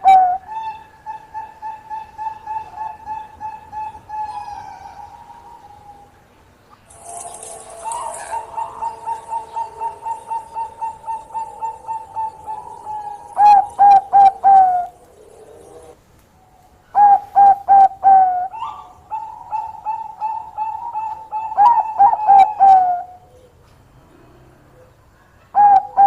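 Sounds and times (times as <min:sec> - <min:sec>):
dove cooing: 0:00.0 - 0:06.2, 0:06.9 - 0:26.0.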